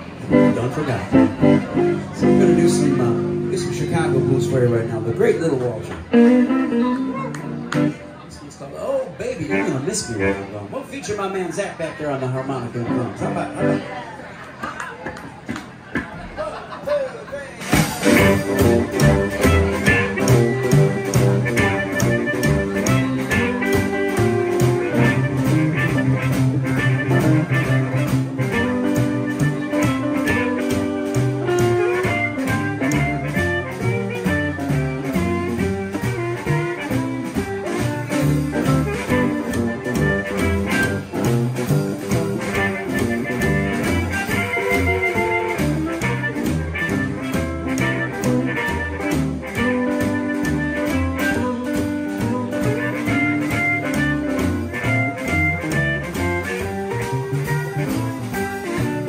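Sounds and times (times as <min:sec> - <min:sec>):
blues band playing: 0:00.0 - 0:16.7, 0:17.5 - 0:59.0.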